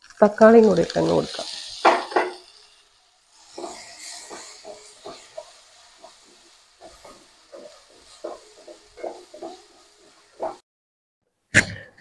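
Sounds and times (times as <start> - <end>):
vegetables sizzling in a pan: 0.0 - 10.6
wooden spatula scraping a pan: 0.6 - 10.6.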